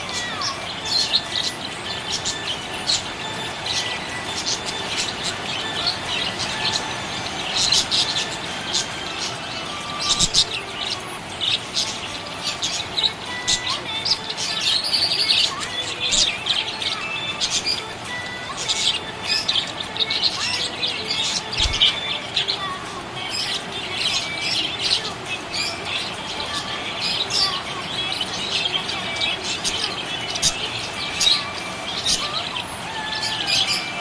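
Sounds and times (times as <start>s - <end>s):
budgerigars chirping: 0.0s - 34.0s.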